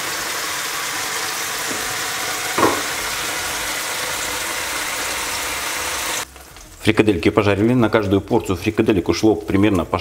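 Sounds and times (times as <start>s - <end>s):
meatballs sizzling in a pan: 0.0s - 10.0s.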